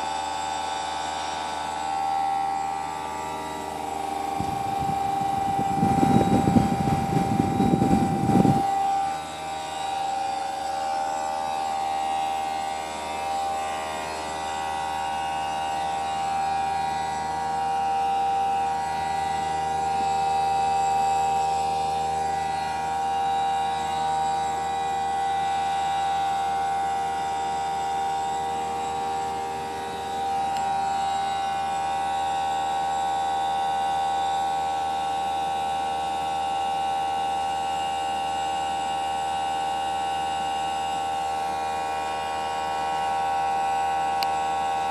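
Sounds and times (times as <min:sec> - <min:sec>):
heat pump whining: 0:00.0 - 0:44.9.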